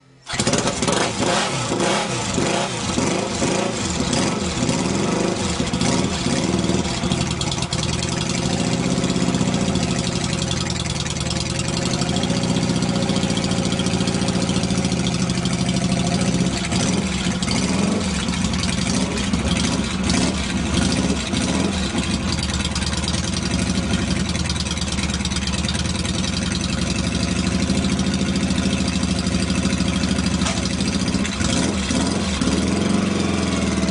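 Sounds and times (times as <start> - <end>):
motorcycle engine idling and revving: 0.2 - 33.9.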